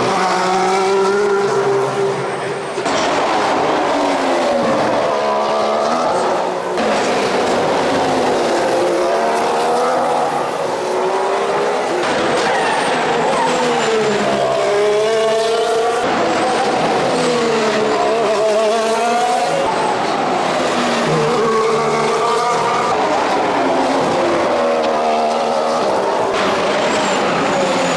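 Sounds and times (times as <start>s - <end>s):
racing car engine: 0.0s - 27.9s.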